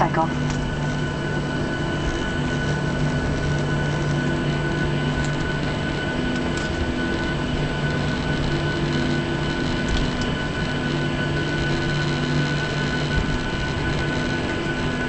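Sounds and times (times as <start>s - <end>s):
high engine whine: 0.0s - 15.0s
jet engines rushing: 0.0s - 15.0s.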